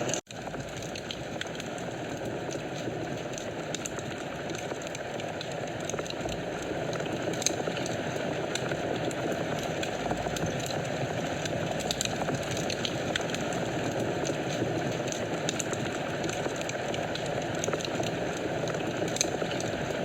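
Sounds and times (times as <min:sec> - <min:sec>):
fire burning with crackles: 0:00.0 - 0:20.0.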